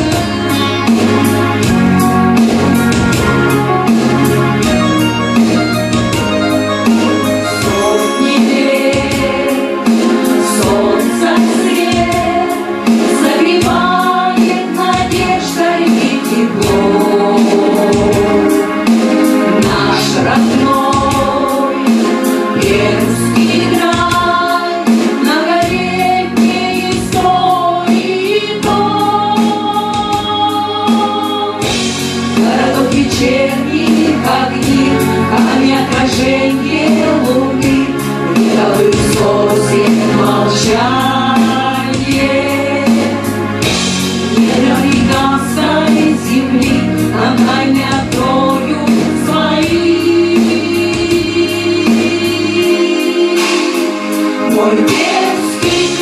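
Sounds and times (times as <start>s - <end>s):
vocal ensemble singing in chorus: 0.0s - 4.8s, 6.8s - 56.0s
instrumental accompaniment with beat: 0.0s - 56.0s.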